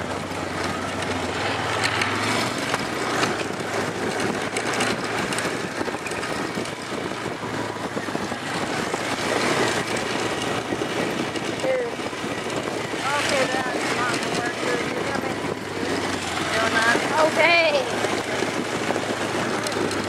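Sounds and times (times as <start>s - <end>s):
quad bike engine running: 0.0s - 20.0s
vehicle jostling over dirt: 0.0s - 20.0s.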